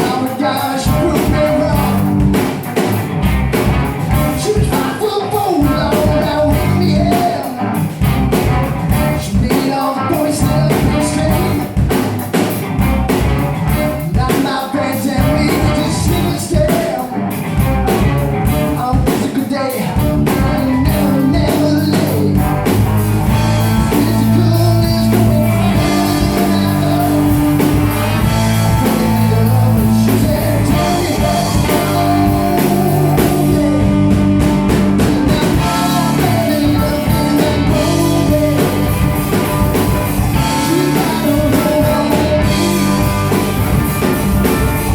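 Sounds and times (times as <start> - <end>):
rock song: 0.0 - 44.9.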